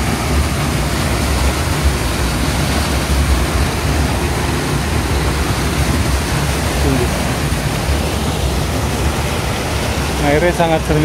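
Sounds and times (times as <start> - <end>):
low rumble: 0.0 - 10.8
stream water rushing: 0.0 - 11.0.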